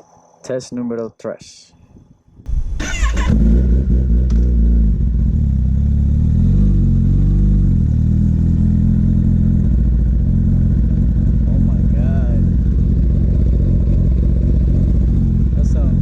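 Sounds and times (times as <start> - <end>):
motorcycle engine starting and revving: 2.5 - 16.0.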